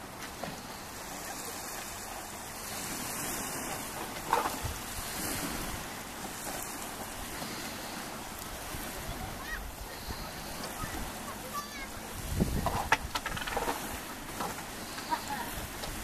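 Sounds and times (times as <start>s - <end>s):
waves lapping: 0.0s - 16.0s
wind buffeting microphone: 2.2s - 16.0s.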